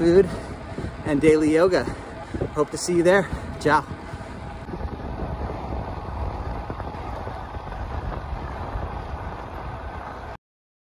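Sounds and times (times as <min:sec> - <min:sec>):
wind rumbling on microphone: 0:00.0 - 0:10.4.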